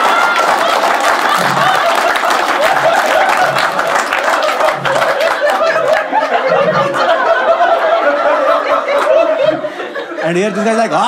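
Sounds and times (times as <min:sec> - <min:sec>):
people clapping: 0:00.0 - 0:09.5
audience laughing: 0:00.0 - 0:11.0.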